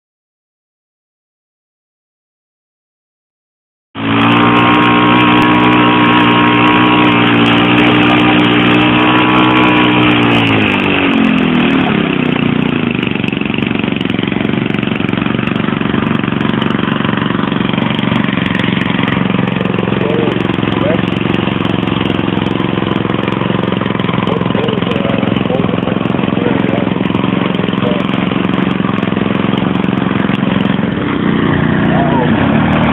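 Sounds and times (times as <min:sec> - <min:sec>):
model airplane engine running: 0:04.0 - 0:32.9.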